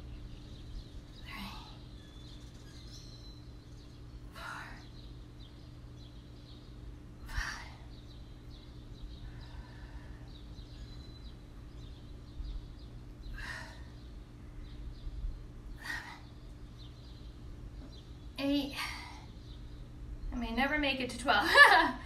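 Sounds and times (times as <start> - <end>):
faint bird chirps: 0.0 - 20.6
low hum: 0.0 - 22.0.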